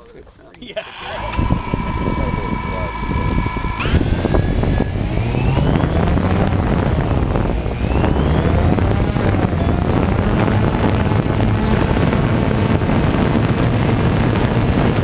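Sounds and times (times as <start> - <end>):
wind noise on microphone: 0.0 - 15.0
drone propellers whining: 0.8 - 15.0.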